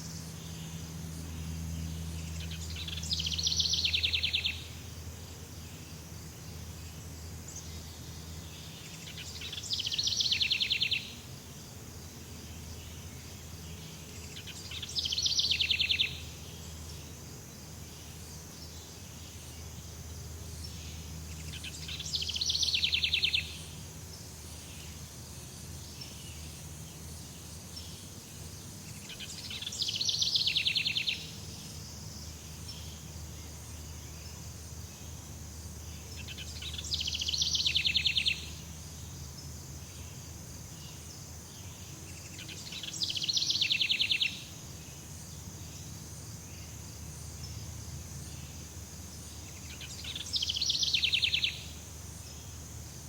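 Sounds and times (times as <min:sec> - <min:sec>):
high insect drone: 0:00.0 - 0:53.0.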